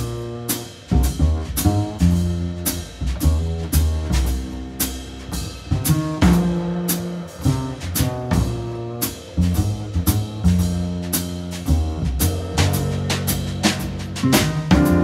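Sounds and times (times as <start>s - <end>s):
drum kit hits: 0.0s - 15.0s
upright bass notes: 0.0s - 15.0s.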